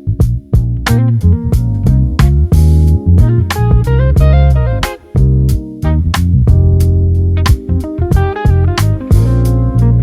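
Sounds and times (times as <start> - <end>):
plucked bass guitar notes: 0.0 - 10.0.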